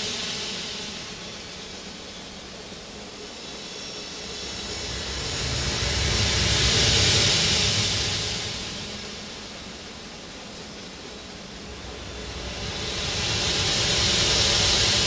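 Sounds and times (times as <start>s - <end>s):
hissing wash of noise: 0.0s - 15.0s.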